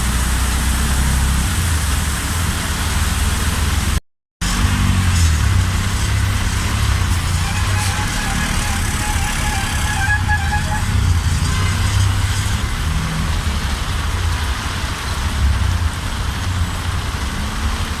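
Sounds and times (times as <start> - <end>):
heavy rain: 0.0 - 18.0
road traffic rumble: 0.0 - 18.0.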